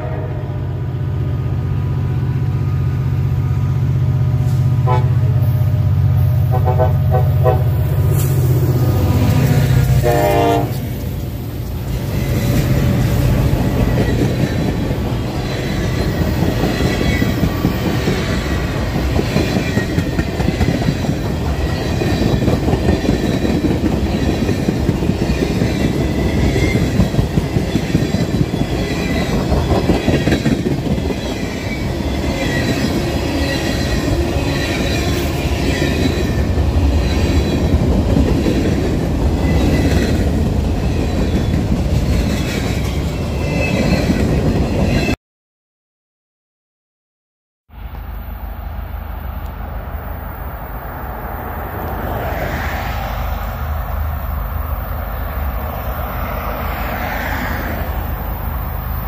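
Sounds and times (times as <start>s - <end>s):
freight train rumbling: 0.0s - 45.2s, 47.7s - 59.0s.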